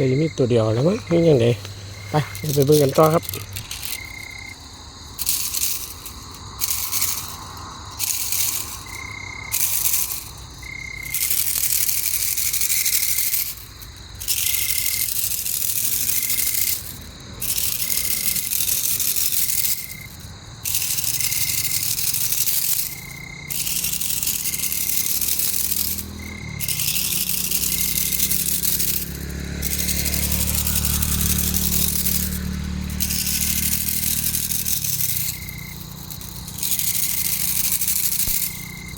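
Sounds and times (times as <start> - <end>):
insect chorus hiss: 0.0 - 38.9
short insect chirp: 0.0 - 38.9.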